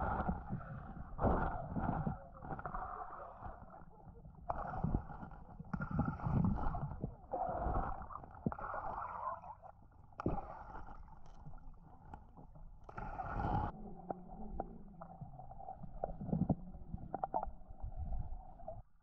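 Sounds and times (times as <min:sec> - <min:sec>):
muffled underwater water gurgling: 0:00.0 - 0:19.0.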